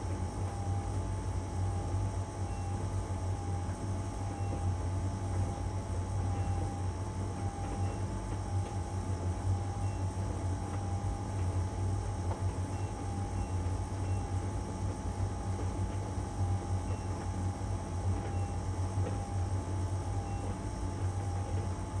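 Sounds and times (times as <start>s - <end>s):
faint whine: 0.0s - 22.0s.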